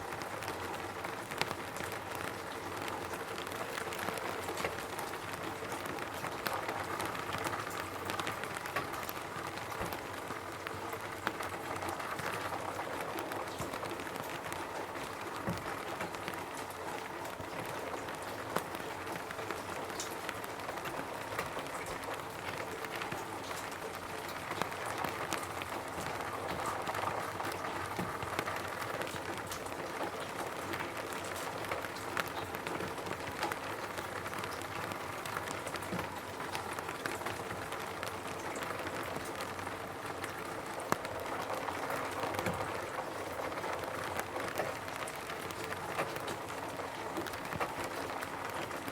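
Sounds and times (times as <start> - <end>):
rain on a roof: 0.0 - 48.9.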